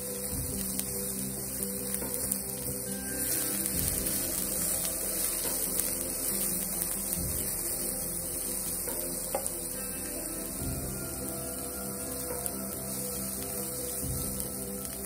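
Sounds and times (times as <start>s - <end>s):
food sizzling in oil: 0.0s - 15.0s
low hum: 0.0s - 15.0s.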